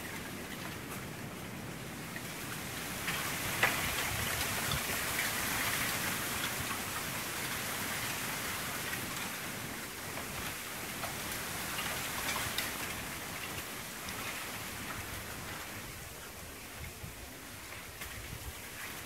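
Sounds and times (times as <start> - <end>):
wind rustling bamboo leaves: 0.0 - 19.0.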